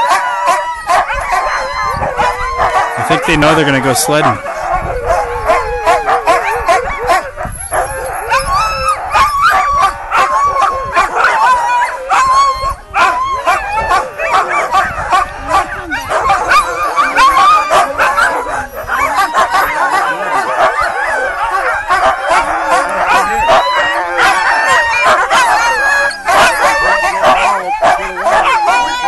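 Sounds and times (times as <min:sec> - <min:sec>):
sled dogs barking and yipping: 0:00.0 - 0:29.0
sled dogs howling: 0:00.0 - 0:29.0.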